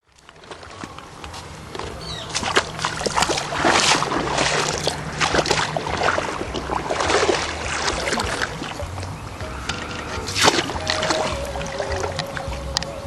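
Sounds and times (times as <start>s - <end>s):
river water splashing: 0.0s - 13.0s
steady low rumble: 0.3s - 13.0s.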